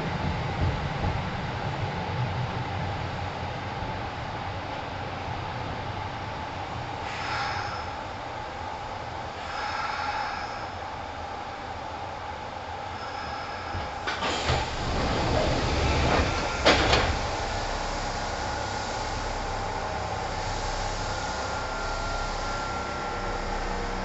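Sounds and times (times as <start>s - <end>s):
electric train running rumble: 0.0s - 24.0s.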